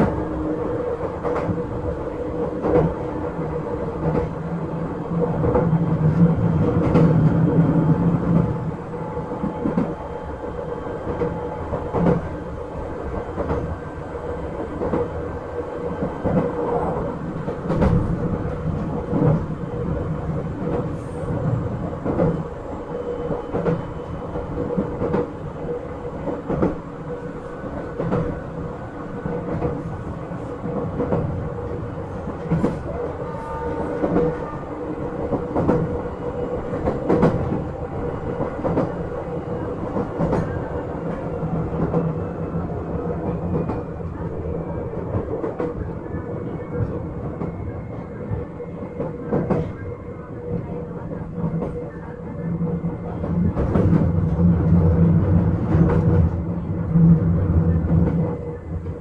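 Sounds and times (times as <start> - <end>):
train motor and gear hum: 0.0 - 59.0.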